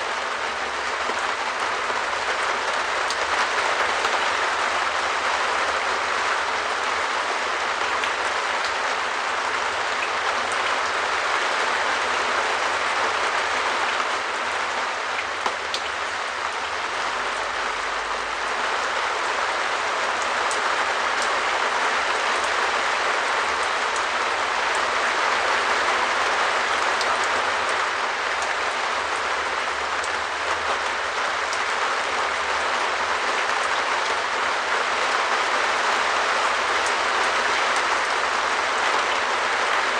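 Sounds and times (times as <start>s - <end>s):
rain on a shed roof: 0.0s - 39.9s.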